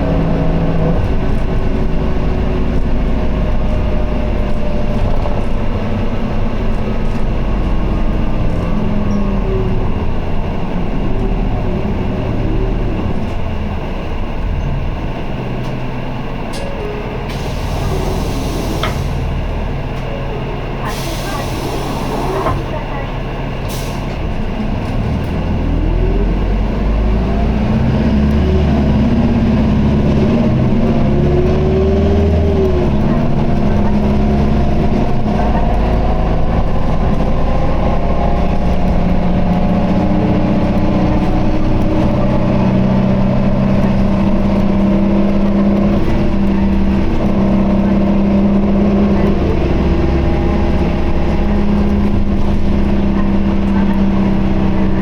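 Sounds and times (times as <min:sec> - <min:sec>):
bus diesel engine droning: 0:00.0 - 0:55.0
high-pitched drivetrain whine: 0:00.0 - 0:55.0.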